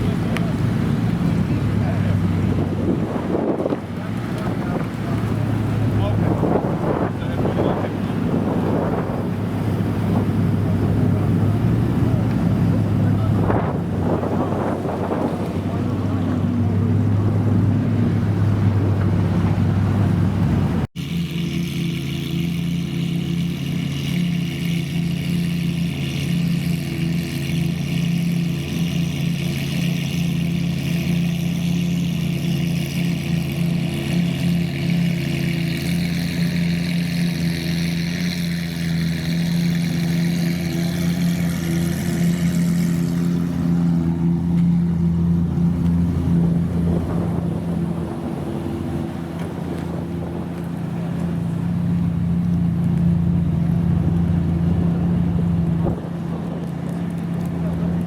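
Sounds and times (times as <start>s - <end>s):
sports car engine running: 0.0s - 58.0s.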